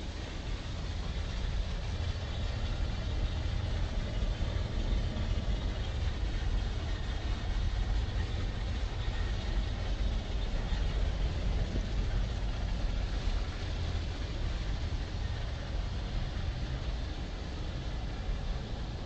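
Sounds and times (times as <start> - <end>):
escalator rumble: 0.0 - 19.0.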